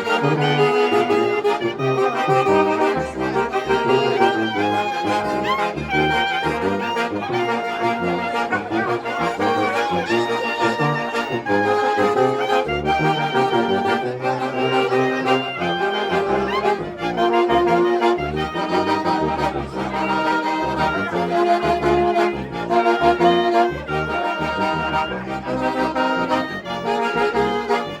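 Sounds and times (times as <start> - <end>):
brass ensemble playing a hymn: 0.0 - 28.0.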